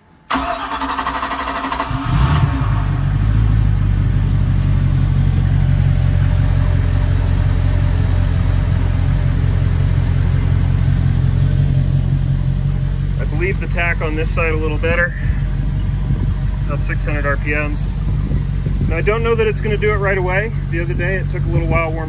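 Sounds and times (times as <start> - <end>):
boat engine starting and idling: 0.0 - 22.0.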